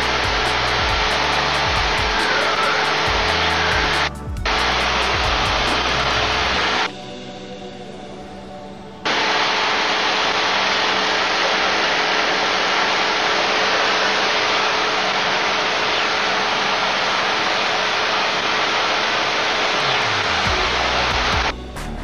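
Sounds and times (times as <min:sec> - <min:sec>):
airflow hiss: 0:00.0 - 0:06.9, 0:09.1 - 0:21.7
aircraft engine and propeller drone: 0:00.0 - 0:07.2, 0:09.1 - 0:21.6.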